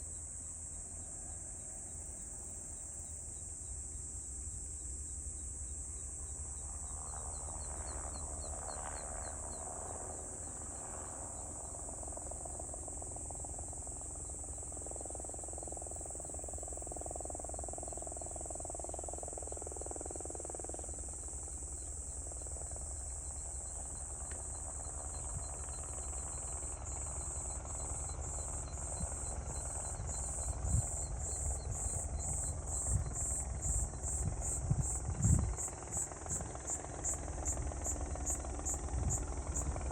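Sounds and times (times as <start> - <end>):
high-pitched insect chorus: 1.8 - 39.9
low steady rumble: 3.6 - 39.9.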